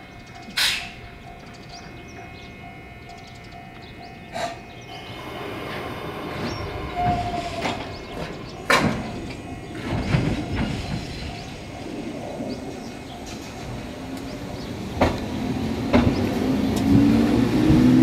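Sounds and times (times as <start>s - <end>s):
brief train tone: 0.0s - 18.0s
electric train running: 0.0s - 18.0s.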